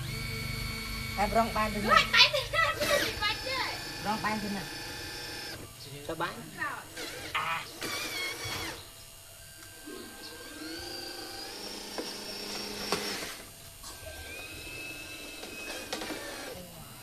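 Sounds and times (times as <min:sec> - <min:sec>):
toy electric motor whining: 0:00.0 - 0:05.6, 0:06.2 - 0:17.0.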